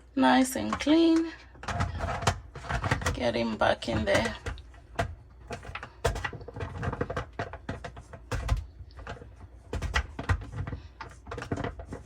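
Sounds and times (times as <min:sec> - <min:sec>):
plastic knocks and clicks: 0:00.7 - 0:12.0.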